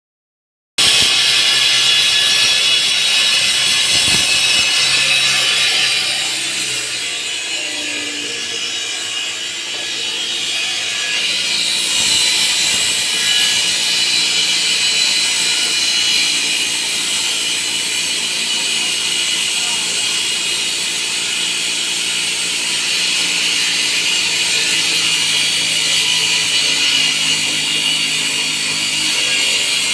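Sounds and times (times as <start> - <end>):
saw grinding through concrete: 0.8 - 29.9.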